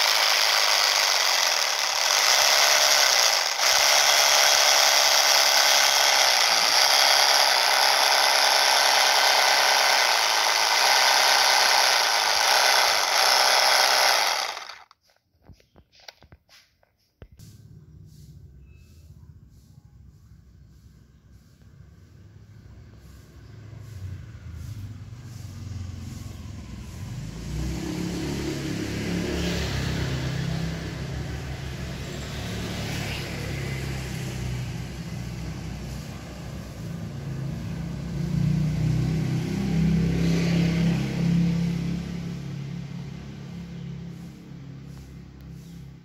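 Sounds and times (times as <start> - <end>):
passing road traffic: 0.0 - 14.9, 17.4 - 46.0.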